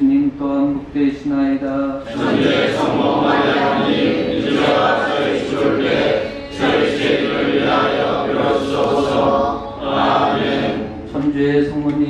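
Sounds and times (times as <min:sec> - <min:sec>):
congregation chanting prayer: 0:02.0 - 0:12.0.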